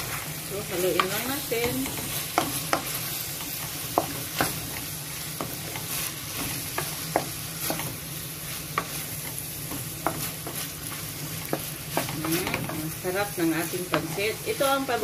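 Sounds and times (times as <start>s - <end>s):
food sizzling in frying pan: 0.0s - 15.0s
spatula knocking and scraping pan: 0.8s - 15.0s.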